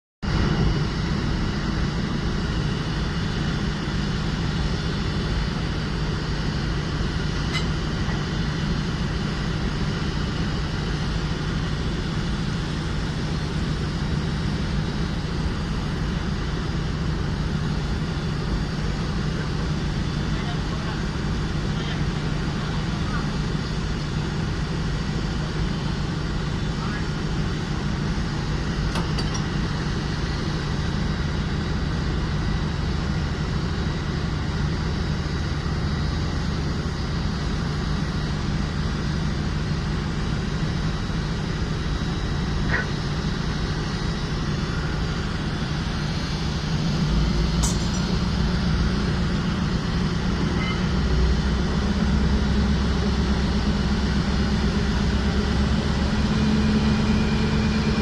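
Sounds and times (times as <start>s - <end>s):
ship diesel engines droning: 0.2s - 58.0s.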